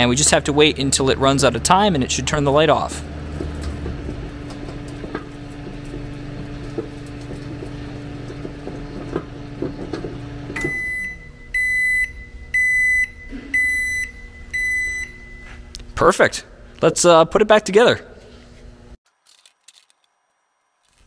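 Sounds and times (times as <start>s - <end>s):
microwave fan humming: 0.0s - 16.9s.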